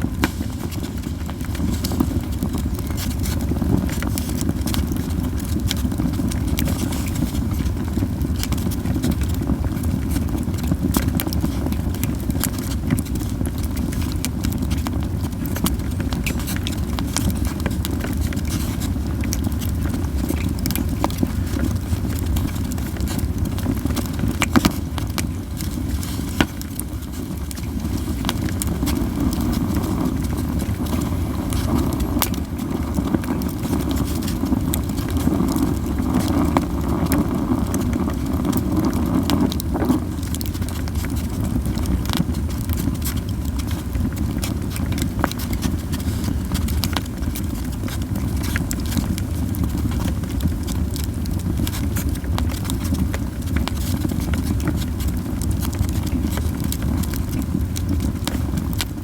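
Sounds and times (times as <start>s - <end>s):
campfire flame rushing: 0.0s - 59.0s
fire crackling and popping: 0.0s - 59.0s.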